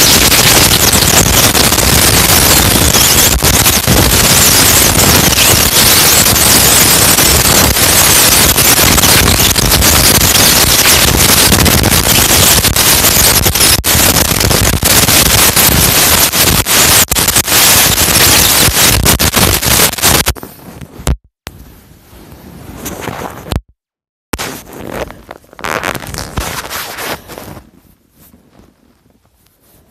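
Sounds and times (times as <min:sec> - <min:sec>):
microphone handling crackle: 0:00.0 - 0:23.7, 0:24.4 - 0:29.9.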